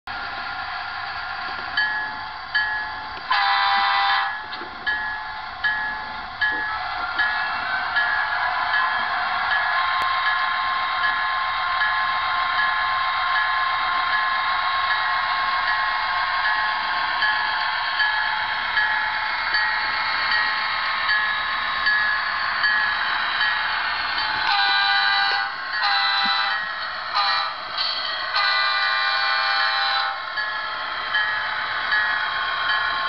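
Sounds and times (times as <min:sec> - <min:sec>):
model train diesel sound: 0:00.1 - 0:33.0.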